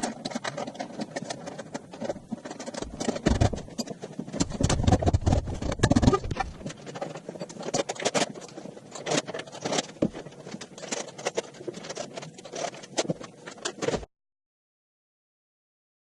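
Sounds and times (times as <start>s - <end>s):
rapid clatter of clicks and knocks: 0.0s - 14.1s.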